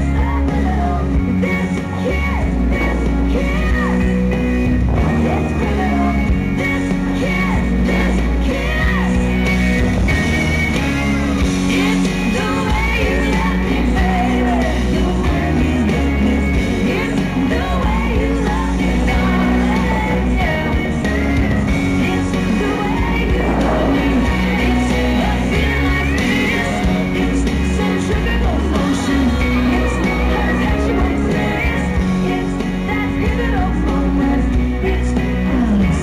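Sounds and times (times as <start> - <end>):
steady bass notes: 0.0 - 36.0.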